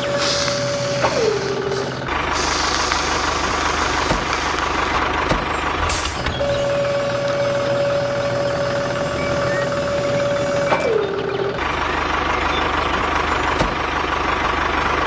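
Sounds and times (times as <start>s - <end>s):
small tractor motor rumbling: 0.0s - 15.0s.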